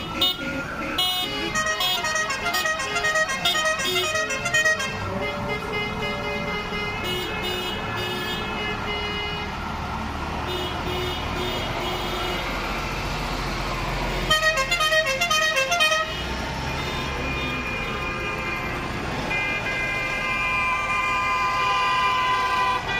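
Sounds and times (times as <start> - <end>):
vehicle horns tooting: 0.0 - 9.6, 10.4 - 12.6, 14.2 - 22.9
truck diesel engine rumbling: 0.0 - 22.9.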